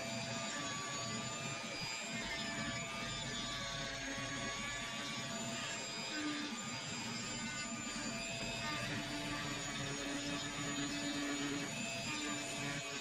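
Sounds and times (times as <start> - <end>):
rotary tool sanding: 0.0 - 13.0.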